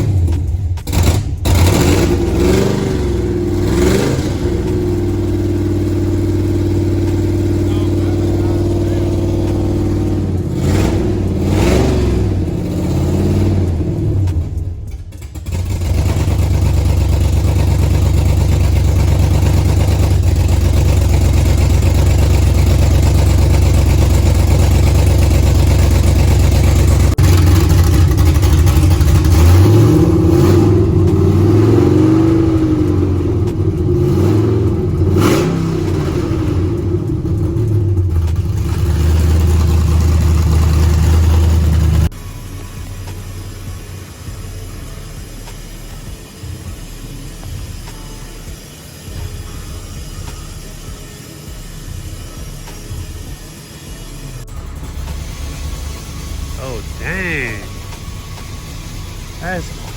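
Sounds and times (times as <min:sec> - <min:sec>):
car engine revving: 0:00.0 - 0:50.9, 0:51.5 - 0:59.9.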